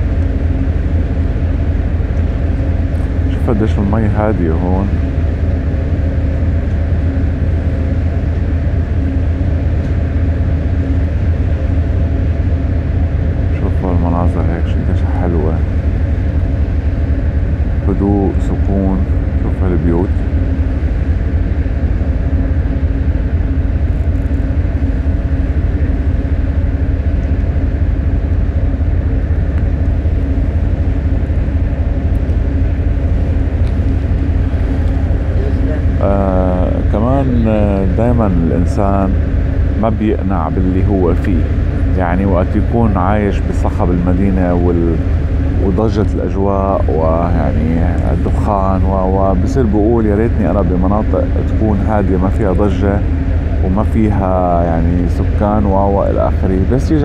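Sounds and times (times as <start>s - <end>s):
ship engines droning: 0.0s - 57.0s.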